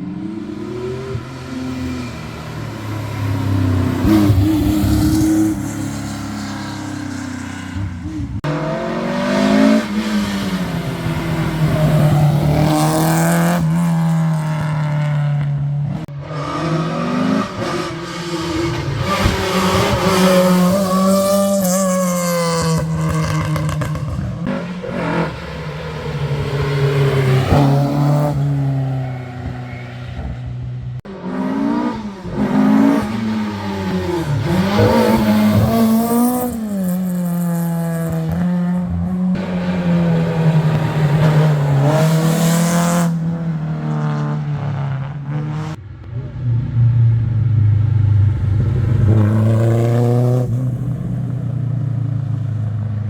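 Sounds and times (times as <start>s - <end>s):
rally car engines accelerating: 0.0s - 53.0s.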